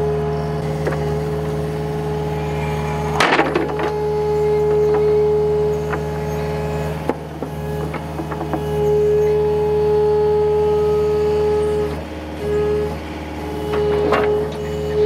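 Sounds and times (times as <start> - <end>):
excavator engine whining: 0.0 - 15.0.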